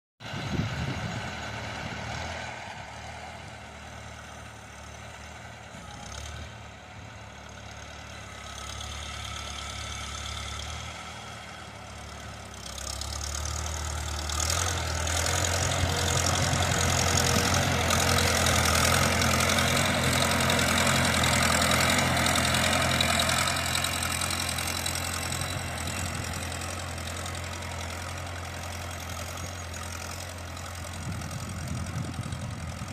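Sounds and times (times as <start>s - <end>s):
tractor engine running under load: 0.2s - 32.9s.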